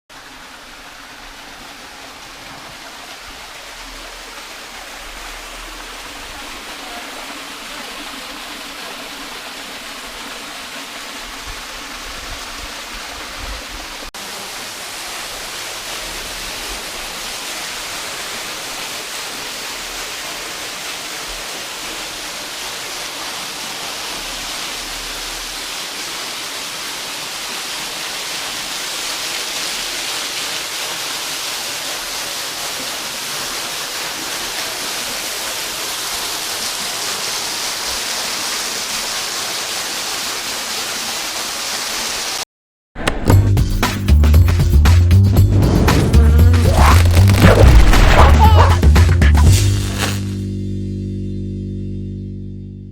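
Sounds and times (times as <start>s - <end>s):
waterfall splashing: 0.1s - 42.4s, 45.5s - 50.4s.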